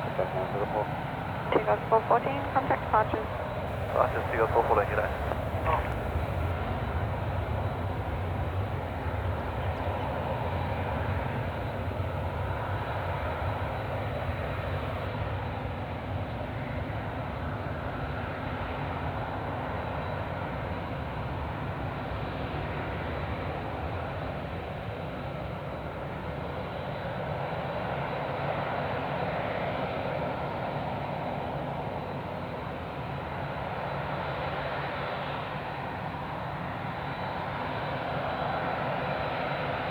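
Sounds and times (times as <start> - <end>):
jet airliner engines rumbling: 0.0 - 39.9.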